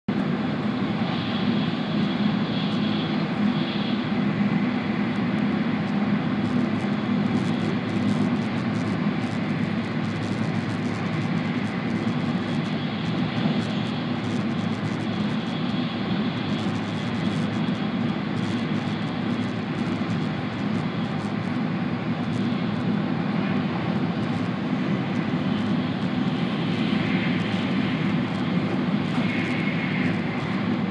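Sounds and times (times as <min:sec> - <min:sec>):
faint steady whine: 0:00.1 - 0:30.9.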